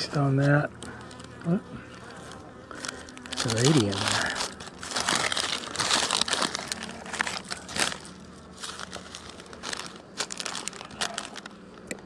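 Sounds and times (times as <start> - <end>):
wrapping crinkling and crumpling: 0.0 - 12.0.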